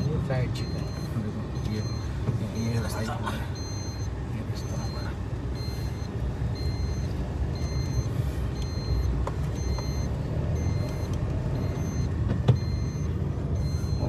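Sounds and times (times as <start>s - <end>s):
car road and engine rumble: 0.0s - 14.0s
high electronic beep: 0.0s - 14.0s.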